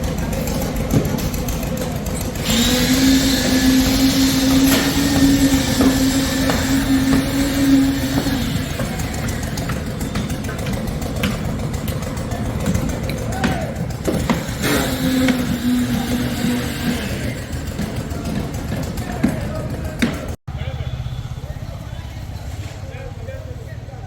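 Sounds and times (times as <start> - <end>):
low engine rumble: 0.0 - 24.0
machine motor whining: 0.9 - 20.4.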